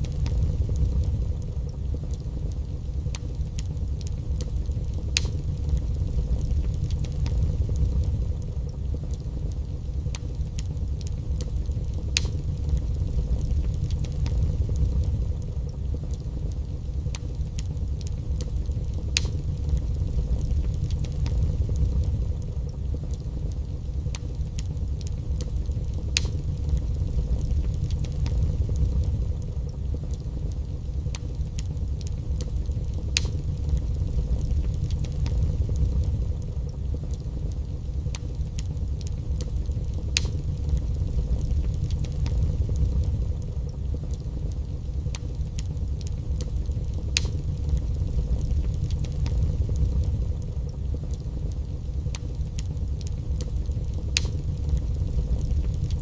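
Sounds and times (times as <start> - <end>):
burning wood crackling and popping: 0.0 - 56.0
fire flames rumbling: 0.0 - 56.0.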